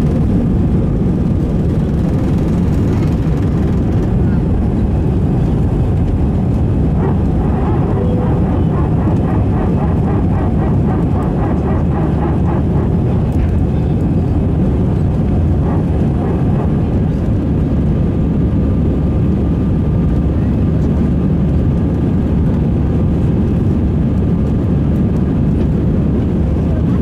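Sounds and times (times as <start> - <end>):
jet engines heard inside cabin: 0.0 - 27.0.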